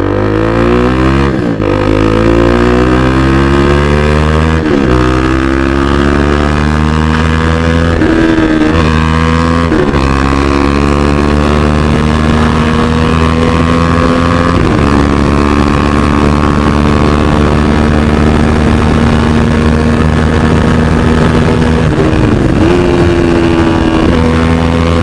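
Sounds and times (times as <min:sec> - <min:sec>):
motorcycle engine running loud: 0:00.0 - 0:25.0.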